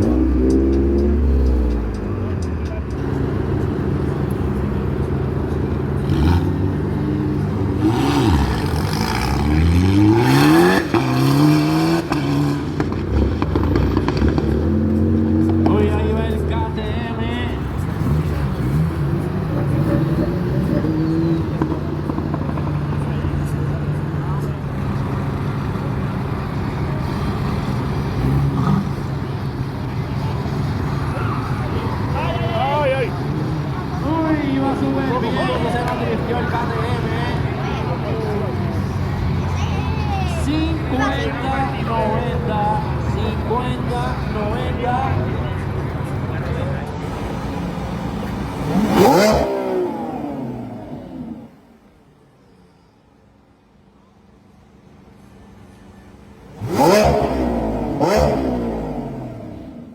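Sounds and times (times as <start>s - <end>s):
car engine accelerating hard: 0.0s - 51.9s, 56.5s - 59.9s.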